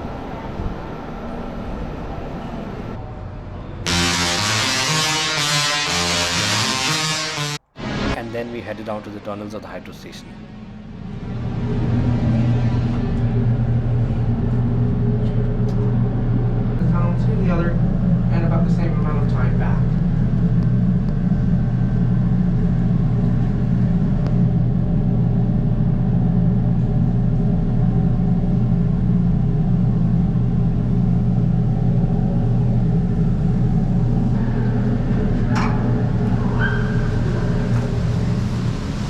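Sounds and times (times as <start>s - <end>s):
low rumble in tunnel: 0.0s - 5.9s, 9.6s - 39.0s.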